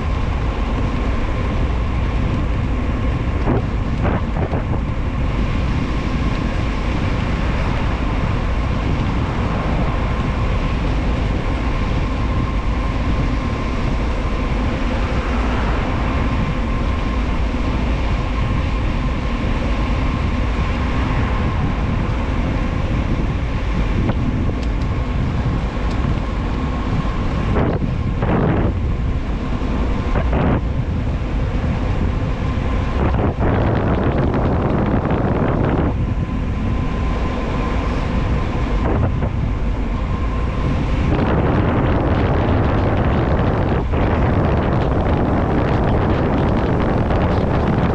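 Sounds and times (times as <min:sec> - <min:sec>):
wind rushing over microphone: 0:00.0 - 0:47.9.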